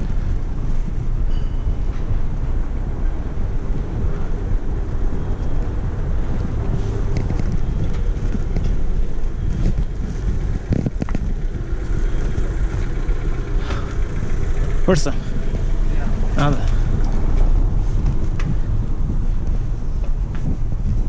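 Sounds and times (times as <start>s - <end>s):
wind on microphone: 0.0s - 21.0s
bicycle rolling over cobblestones: 3.4s - 21.0s.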